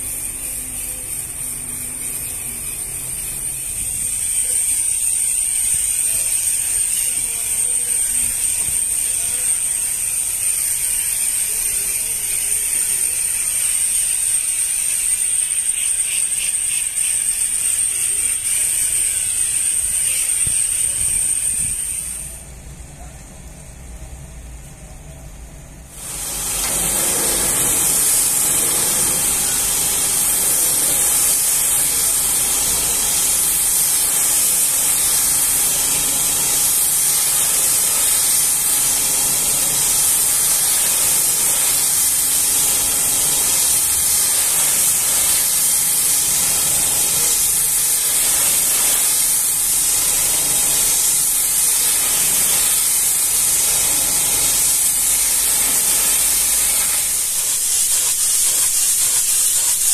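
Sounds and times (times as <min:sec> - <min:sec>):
pressure washer spraying metal: 0:00.0 - 0:22.8, 0:25.8 - 0:59.9.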